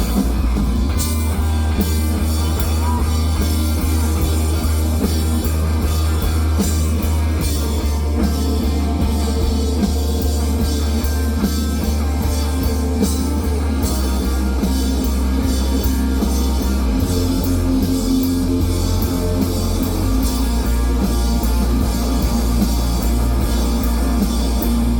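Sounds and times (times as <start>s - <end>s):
drum kit: 0.0s - 24.9s
electric guitar: 0.0s - 24.9s
heavy bass line: 0.0s - 24.9s.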